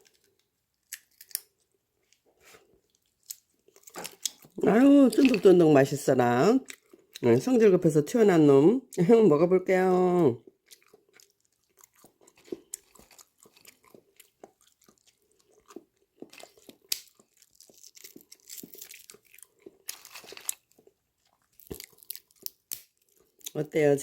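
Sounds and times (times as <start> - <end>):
chewing nuts with small cracks: 0.0 - 5.6, 6.6 - 7.3, 10.4 - 23.6.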